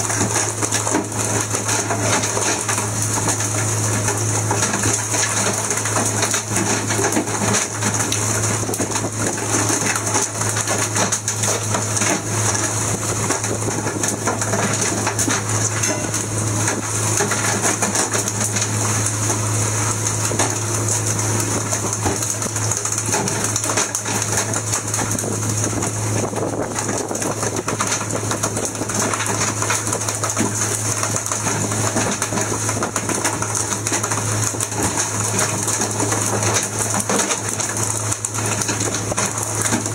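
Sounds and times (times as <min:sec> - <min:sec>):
boat engine droning: 0:00.0 - 0:39.9
water and wind rushing: 0:00.0 - 0:39.9.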